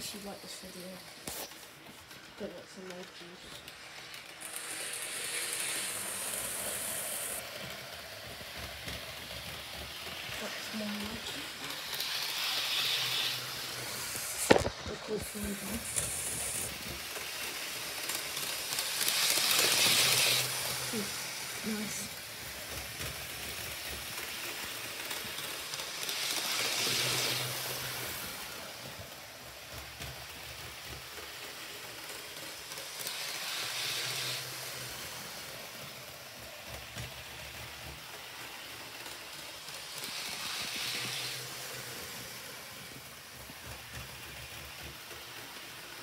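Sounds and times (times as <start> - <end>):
model train running on track: 0.0 - 46.0.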